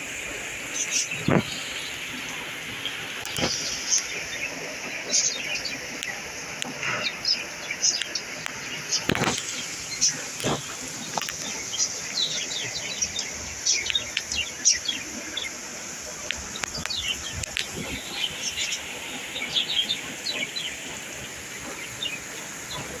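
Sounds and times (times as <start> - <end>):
rain hissing: 0.0 - 23.0
small birds chirping: 0.0 - 23.0.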